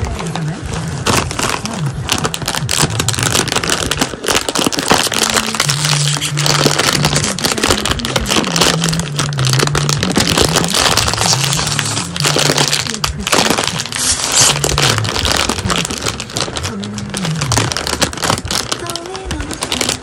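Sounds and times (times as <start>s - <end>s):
background music: 0.0s - 20.0s
plastic snack bag crinkling: 0.0s - 20.0s.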